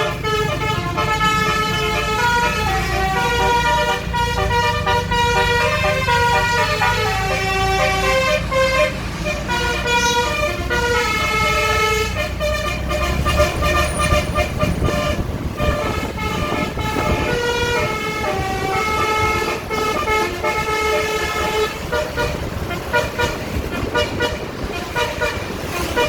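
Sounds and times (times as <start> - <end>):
bus air horns playing melody: 0.0 - 26.0
bus engine rumbling: 0.0 - 26.0.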